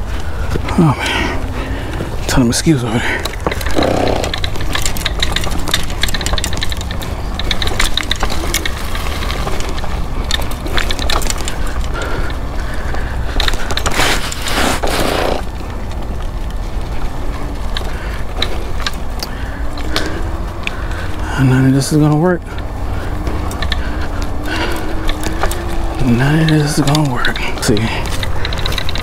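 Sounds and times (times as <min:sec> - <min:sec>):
leaves and twigs crackling: 0:00.0 - 0:29.0
scooter tyres rumbling on dirt: 0:00.0 - 0:29.0.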